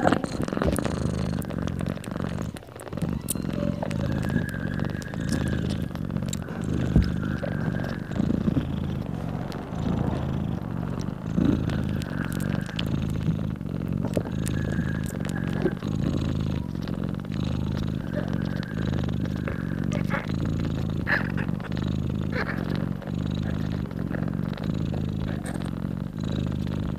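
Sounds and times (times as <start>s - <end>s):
cat purring loudly: 0.0s - 26.9s.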